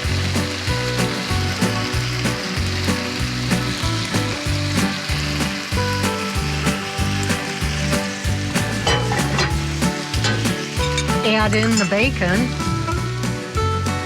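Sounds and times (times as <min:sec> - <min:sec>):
background music: 0:00.0 - 0:14.0
cabbage sizzling in a skillet: 0:00.0 - 0:14.0.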